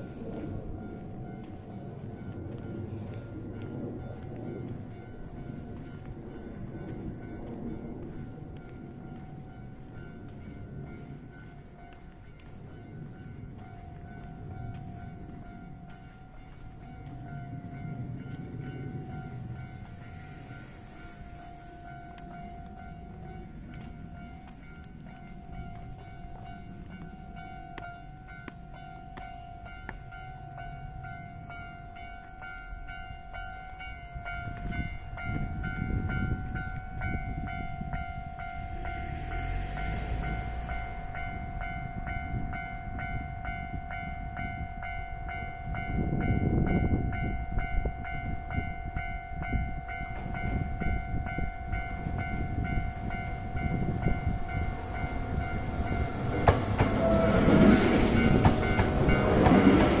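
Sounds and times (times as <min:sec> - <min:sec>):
electric train rumbling past: 0:00.0 - 1:00.0
level crossing warning bell: 0:00.0 - 1:00.0.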